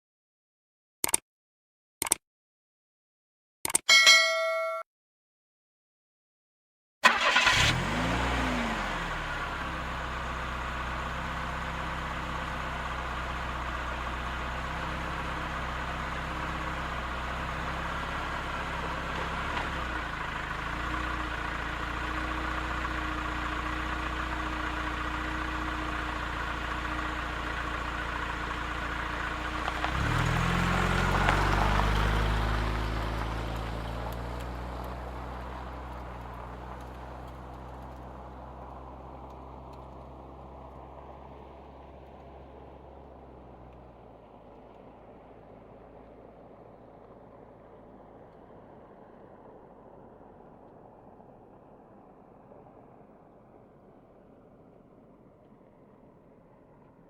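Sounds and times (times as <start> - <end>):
car engine starting and idling: 7.0 - 57.0.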